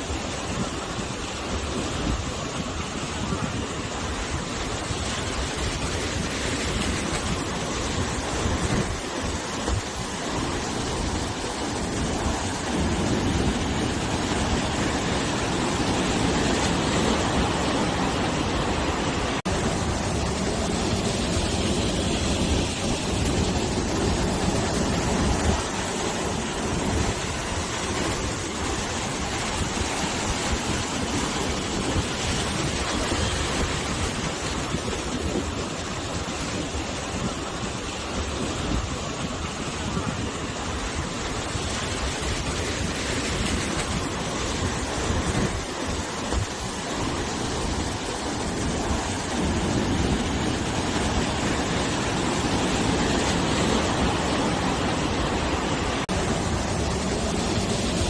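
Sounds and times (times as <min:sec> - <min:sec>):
sea waves washing onto shore: 0:00.0 - 0:58.0
wind blowing: 0:00.0 - 0:58.0.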